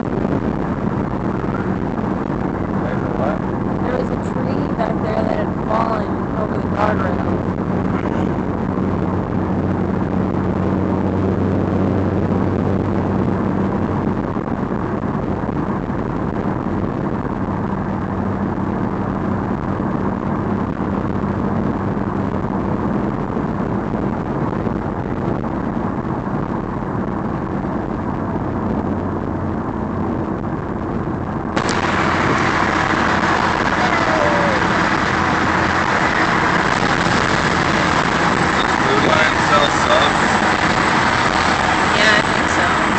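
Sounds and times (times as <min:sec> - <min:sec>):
rushing noise: 0:00.0 - 0:42.9.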